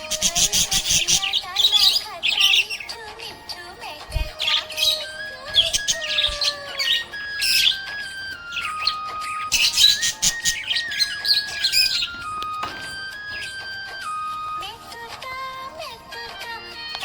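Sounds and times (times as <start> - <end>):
budgerigar chirping and warbling: 0.0 - 3.5, 4.1 - 14.5.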